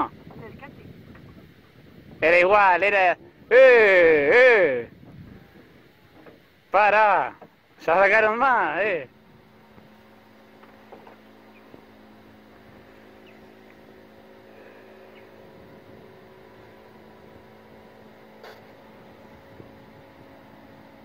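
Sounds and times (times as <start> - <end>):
faint steady hum: 2.8 - 21.0.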